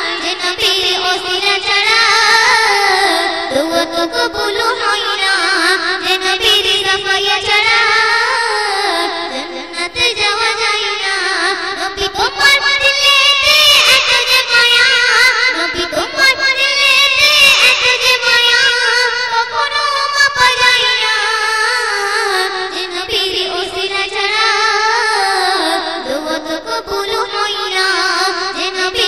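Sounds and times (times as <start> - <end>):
girl singing: 0.0 - 29.0.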